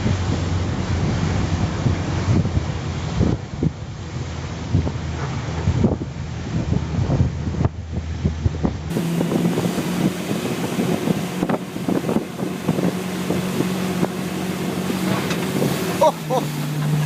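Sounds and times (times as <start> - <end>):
motorboat engine running: 0.0 - 17.0
water rushing: 0.0 - 17.0
wind buffeting microphone: 0.0 - 17.0.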